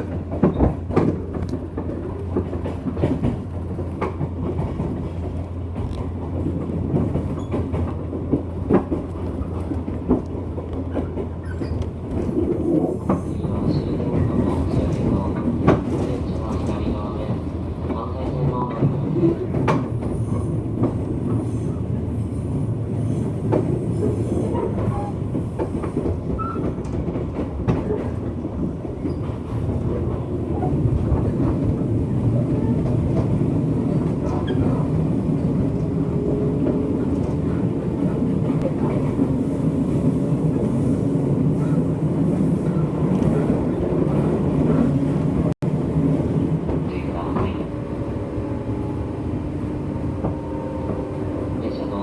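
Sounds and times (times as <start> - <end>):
clickety-clack over rail joints: 0.0 - 52.0
train wheels rumbling on rails: 0.0 - 52.0.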